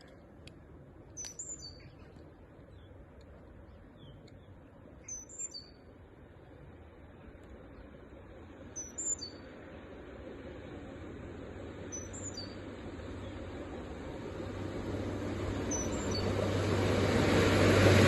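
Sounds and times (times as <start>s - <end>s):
approaching train rumble: 0.0s - 18.0s.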